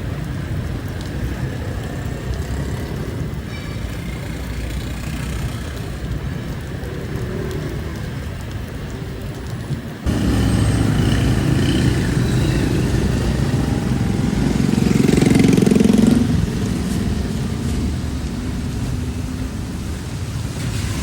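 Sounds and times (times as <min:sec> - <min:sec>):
motorbike engines in traffic: 0:00.0 - 0:21.0
motorbike passing: 0:01.0 - 0:08.4, 0:10.0 - 0:21.0.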